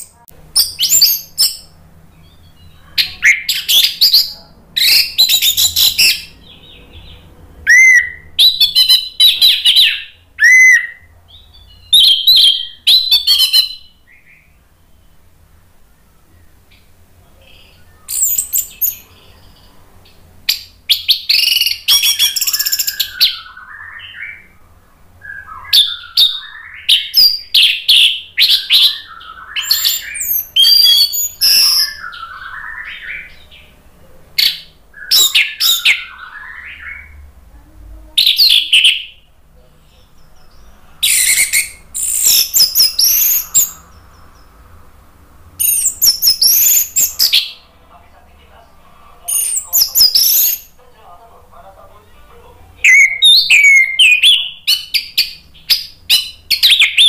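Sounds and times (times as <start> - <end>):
thrush singing whistled song: 0.0 - 15.4, 16.0 - 19.6, 20.5 - 33.7, 34.4 - 37.3, 40.0 - 44.7, 45.5 - 47.6, 49.3 - 50.8, 52.8 - 57.0.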